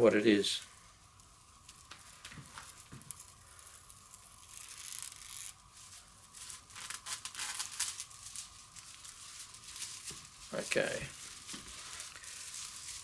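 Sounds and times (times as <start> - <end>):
film peeling crackle: 1.2 - 13.0.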